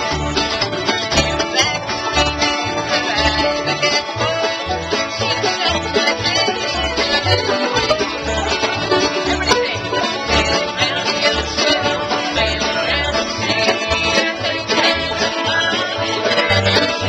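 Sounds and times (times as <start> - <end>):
bluegrass band playing: 0.0 - 17.0
low bass notes: 0.0 - 17.0.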